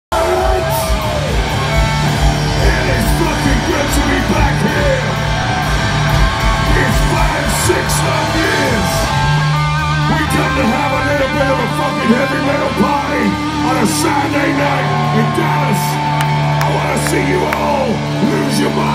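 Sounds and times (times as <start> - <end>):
heavy metal band playing live: 0.1 - 18.9.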